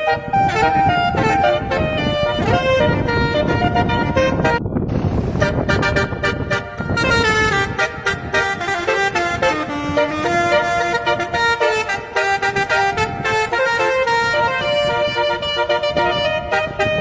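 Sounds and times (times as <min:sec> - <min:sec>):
multi-tone horns playing tune: 0:00.0 - 0:17.0.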